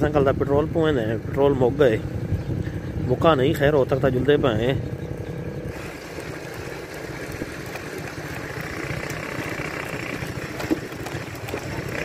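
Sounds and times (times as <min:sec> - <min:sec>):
motorcycle engine rumbling: 0:00.0 - 0:12.0
road and wind noise: 0:00.0 - 0:12.0.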